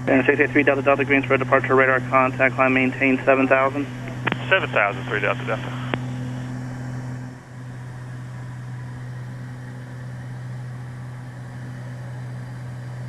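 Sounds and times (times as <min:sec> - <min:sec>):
propeller plane cabin drone: 0:00.0 - 0:13.0.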